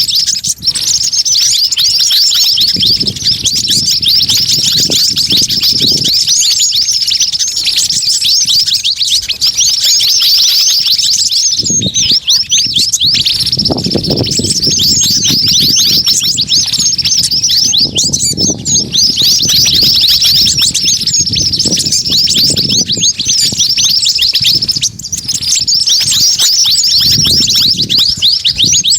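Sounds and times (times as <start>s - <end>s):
songbirds chirping and trilling: 0.0s - 28.9s.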